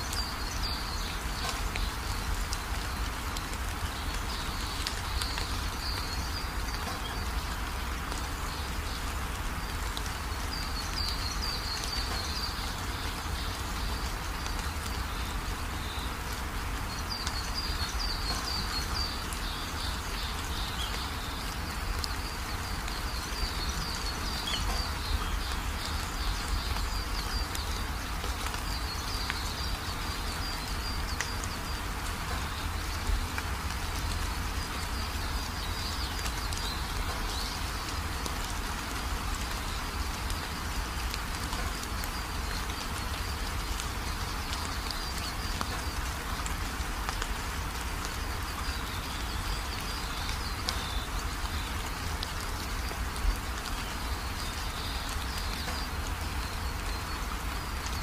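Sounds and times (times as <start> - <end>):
water running over rocks: 0.0 - 58.0.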